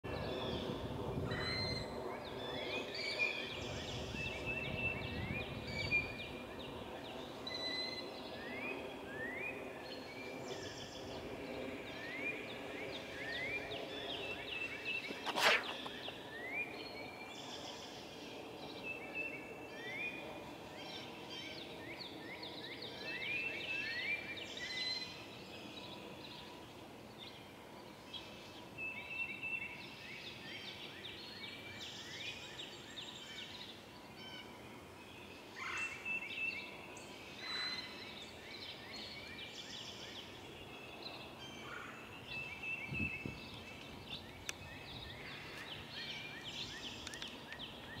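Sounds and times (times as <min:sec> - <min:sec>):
songbirds singing: 0:00.1 - 0:48.0.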